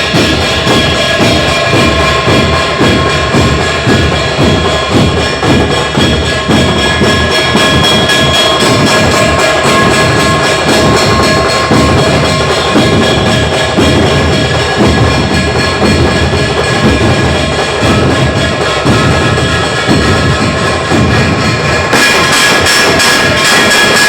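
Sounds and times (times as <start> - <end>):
rhythmic drumming: 0.0 - 24.0.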